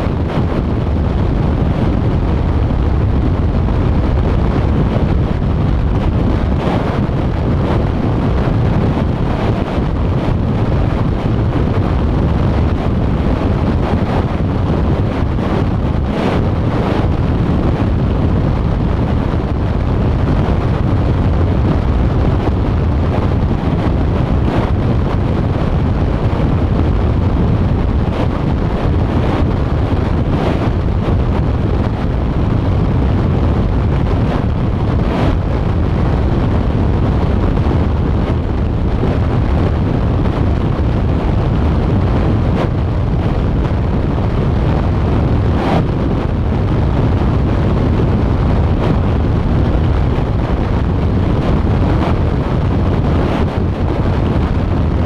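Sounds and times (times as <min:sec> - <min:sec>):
vehicle road and tyre noise: 0:00.0 - 0:55.0
wind buffeting microphone: 0:00.0 - 0:55.0.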